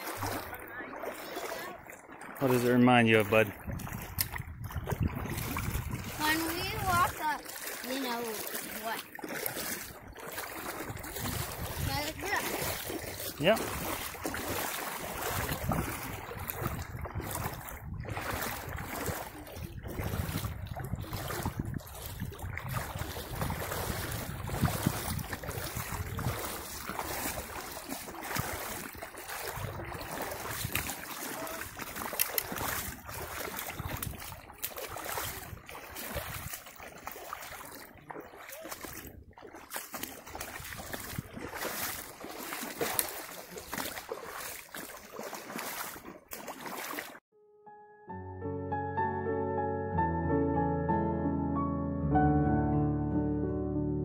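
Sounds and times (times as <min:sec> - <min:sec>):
boots splashing through water: 0:00.0 - 0:47.2
brook running over stones: 0:00.0 - 0:47.2.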